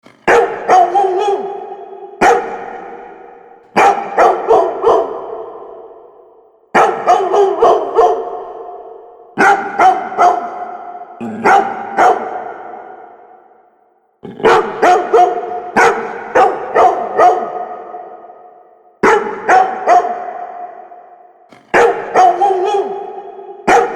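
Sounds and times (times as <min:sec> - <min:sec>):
dog barking with echo: 0:00.0 - 0:23.9.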